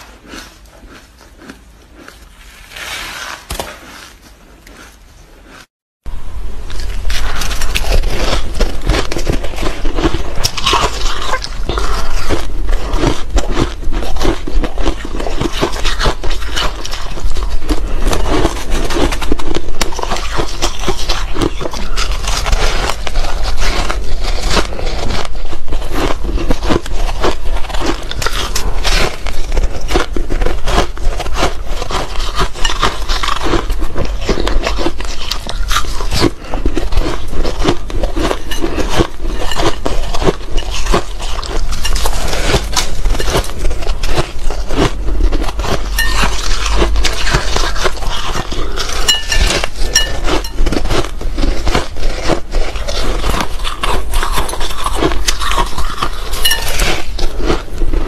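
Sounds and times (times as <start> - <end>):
crushed ice being chewed: 0.0 - 5.7, 6.6 - 58.0
fingers squeezing crushed ice: 6.7 - 58.0.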